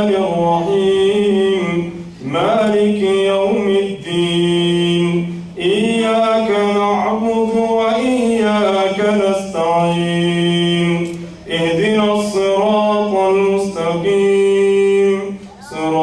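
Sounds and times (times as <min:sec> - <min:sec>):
man chanting into a microphone: 0:00.0 - 0:16.0.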